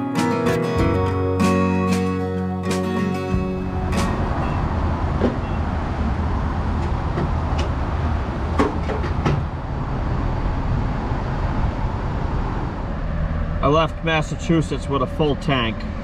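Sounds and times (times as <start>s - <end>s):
gas pump rumble and rush: 2.9s - 16.0s.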